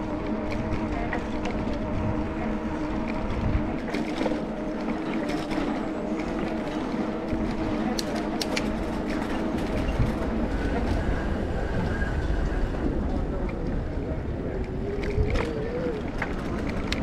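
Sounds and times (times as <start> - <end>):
bicycle mechanical hum: 0.0 - 17.0
wind rumble on microphone: 0.0 - 17.0.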